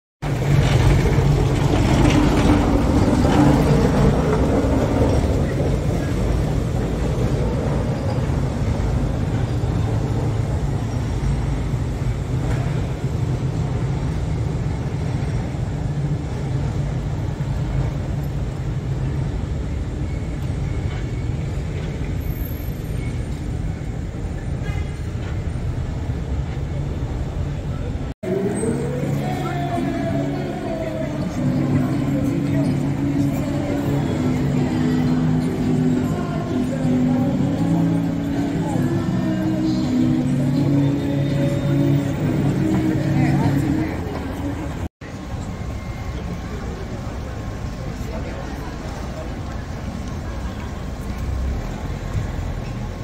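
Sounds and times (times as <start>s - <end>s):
tram rumbling on rails: 0.2s - 53.0s.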